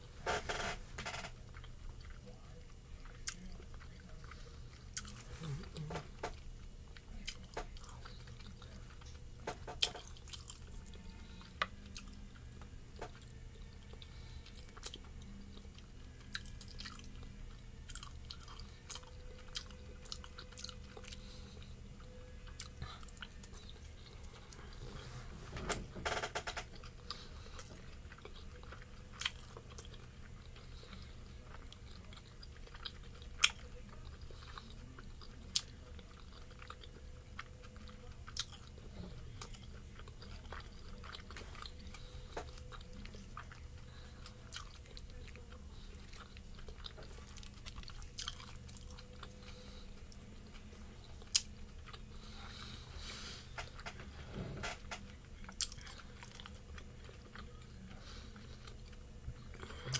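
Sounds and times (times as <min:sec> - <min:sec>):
chewing with wet mouth sounds: 0:00.5 - 0:25.0, 0:26.2 - 0:54.0, 0:54.6 - 0:59.9.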